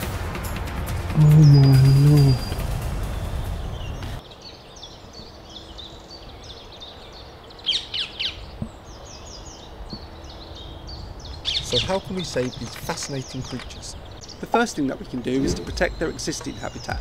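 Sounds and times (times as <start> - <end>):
songbirds chirping: 0.9 - 17.0.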